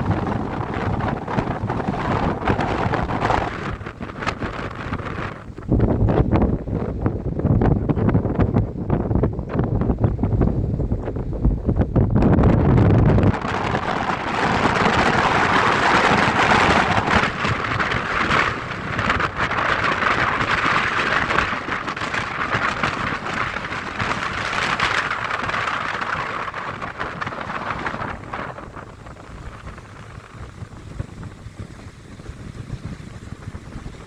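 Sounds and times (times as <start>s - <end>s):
storm wind: 0.0s - 34.0s
surf on a beach: 0.0s - 34.0s.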